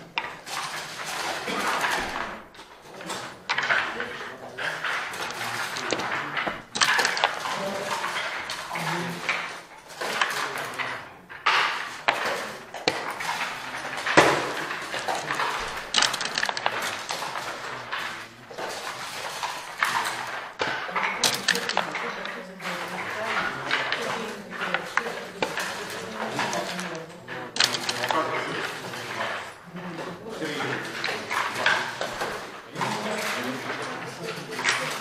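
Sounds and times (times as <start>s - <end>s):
checkers and dice clacking: 0.0s - 35.0s.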